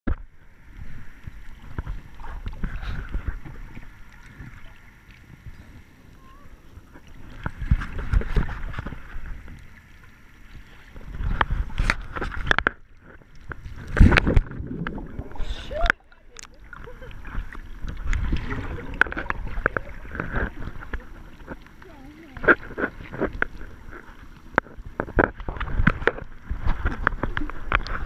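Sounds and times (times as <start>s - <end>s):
bubbling: 0.1s - 28.0s
muffled underwater sloshing: 0.1s - 28.0s.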